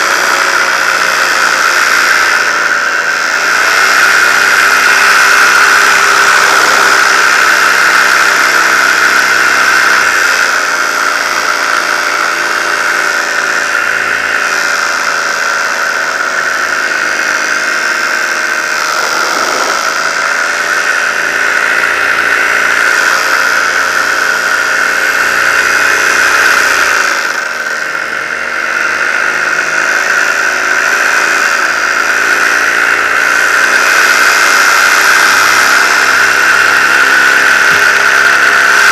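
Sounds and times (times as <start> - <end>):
high whine: 0.0 - 38.9
paramotor engine running: 0.0 - 38.9.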